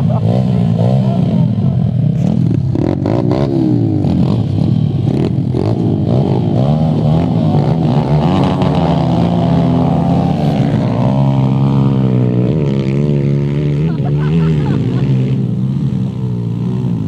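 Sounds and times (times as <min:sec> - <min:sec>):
small motorbike engines revving: 0:00.0 - 0:17.0.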